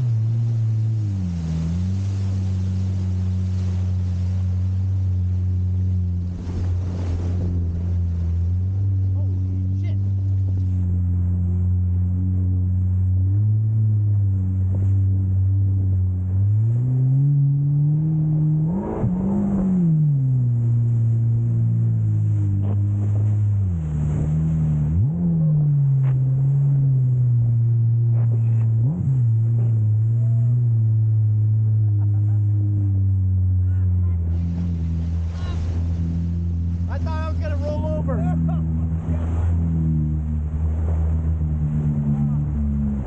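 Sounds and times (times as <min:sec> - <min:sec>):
jet ski engine running hard: 0:00.0 - 0:43.0.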